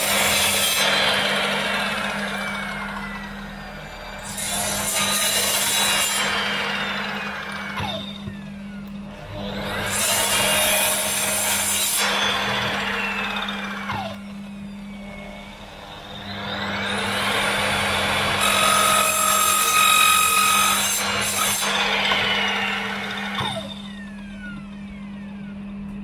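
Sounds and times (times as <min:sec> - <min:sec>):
mitre saw cutting wood: 0:00.0 - 0:25.3.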